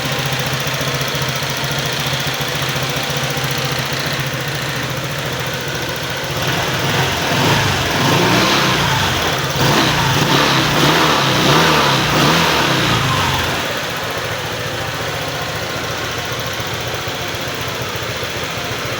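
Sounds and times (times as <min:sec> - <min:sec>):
scooter engine idling and revving: 0:00.0 - 0:18.9.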